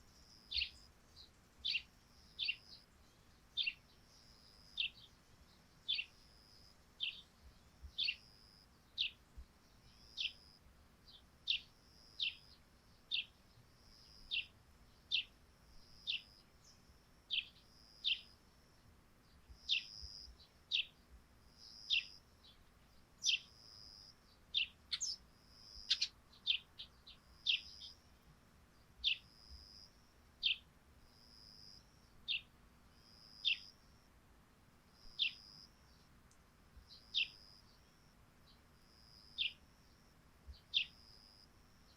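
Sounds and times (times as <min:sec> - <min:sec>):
sparrows chirping: 0:00.2 - 0:18.4, 0:19.3 - 0:21.0, 0:21.6 - 0:28.2, 0:28.8 - 0:33.8, 0:35.0 - 0:36.1, 0:36.9 - 0:38.6, 0:39.2 - 0:41.9.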